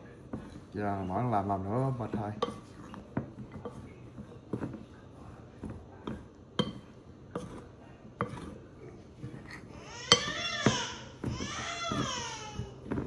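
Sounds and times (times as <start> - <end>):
spoon scraping in bowl: 0.3 - 13.0.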